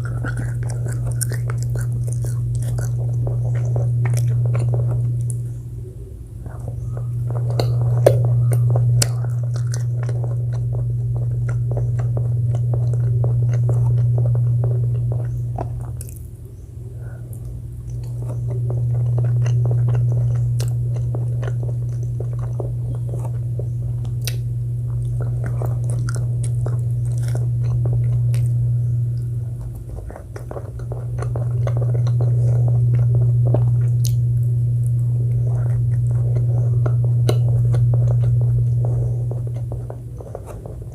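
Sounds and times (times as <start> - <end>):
crunchy chewing of food: 0.0 - 40.9
loud low hum: 0.0 - 40.9.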